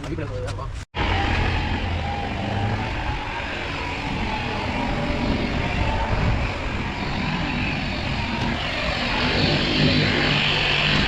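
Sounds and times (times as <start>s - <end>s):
vehicle rumble: 0.0s - 11.0s
road traffic noise: 1.0s - 11.0s.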